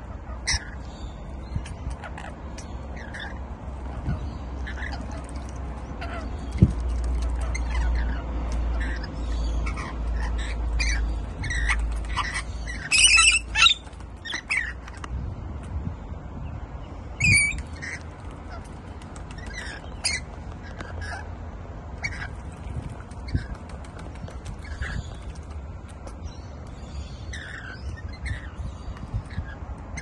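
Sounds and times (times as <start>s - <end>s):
lorikeets screeching: 0.0s - 15.0s, 17.2s - 21.4s, 22.0s - 23.6s, 26.1s - 30.0s.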